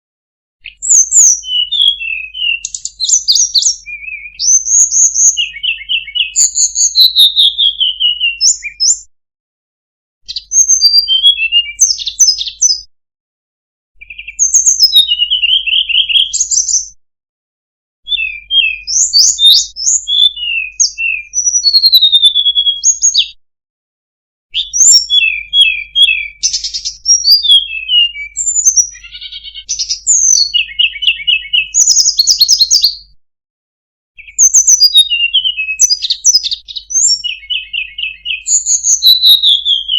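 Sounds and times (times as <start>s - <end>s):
songbird singing: 0.6s - 9.1s, 10.2s - 12.9s, 14.0s - 17.0s, 18.0s - 23.4s, 24.6s - 33.2s, 34.2s - 39.9s.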